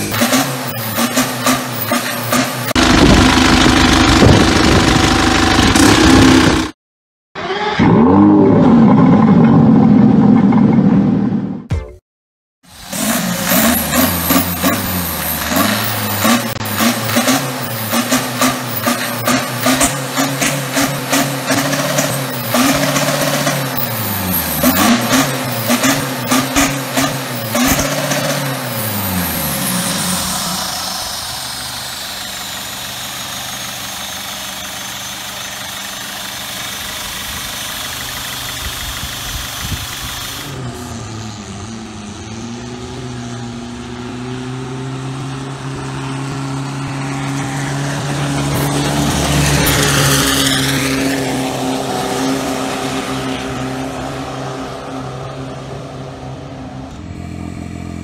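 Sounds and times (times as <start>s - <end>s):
diesel boat engine revving: 0.0s - 6.8s, 12.7s - 58.0s.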